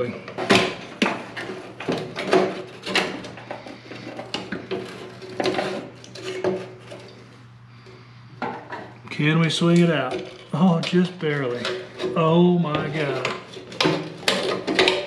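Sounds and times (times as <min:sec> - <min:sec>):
metallic clanks and scrapes: 0:00.0 - 0:07.4, 0:09.8 - 0:15.0
faint steady hum: 0:00.0 - 0:15.0.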